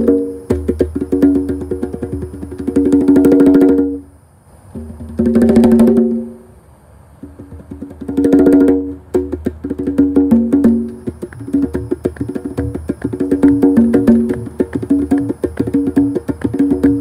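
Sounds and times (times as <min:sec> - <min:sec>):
congas played by hand: 0:00.0 - 0:04.1, 0:04.7 - 0:06.5, 0:07.2 - 0:17.0.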